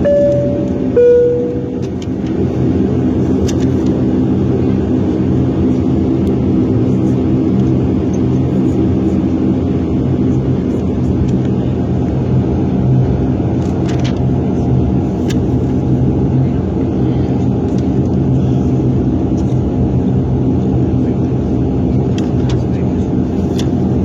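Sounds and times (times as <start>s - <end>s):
turboprop drone in aircraft cabin: 0.0s - 24.0s.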